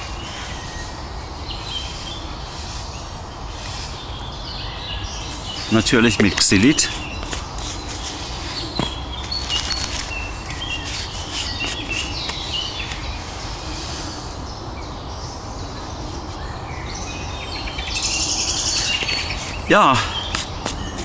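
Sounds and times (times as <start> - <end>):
birds chirping and singing: 0.0 - 21.0.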